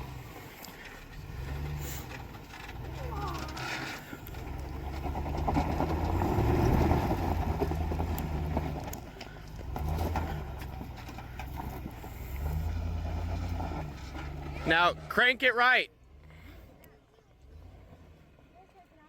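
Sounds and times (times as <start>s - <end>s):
off-road vehicle engine under load: 0.0s - 19.0s.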